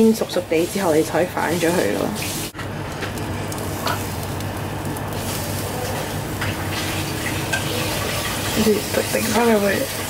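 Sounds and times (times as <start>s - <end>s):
pancake sizzling in oil: 0.4s - 10.0s.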